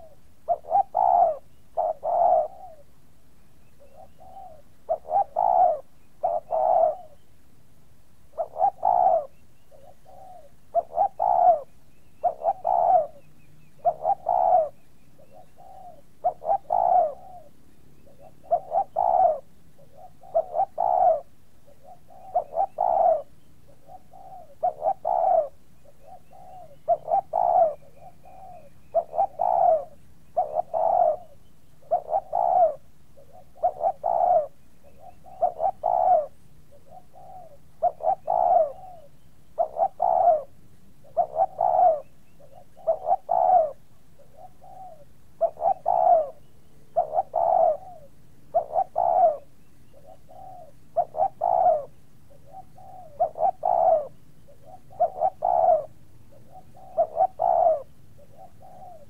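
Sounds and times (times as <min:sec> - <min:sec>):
dove cooing: 0:00.0 - 0:03.0, 0:03.7 - 0:07.3, 0:08.3 - 0:59.0.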